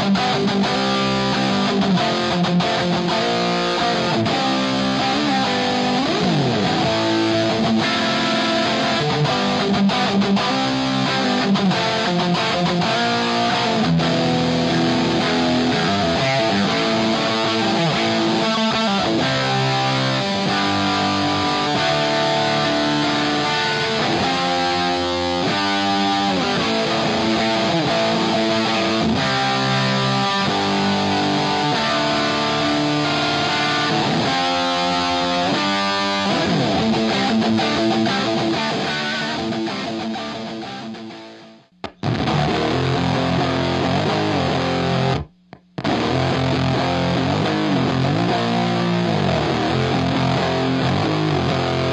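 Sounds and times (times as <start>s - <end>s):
electric guitar chords strummed: 0.0s - 51.9s.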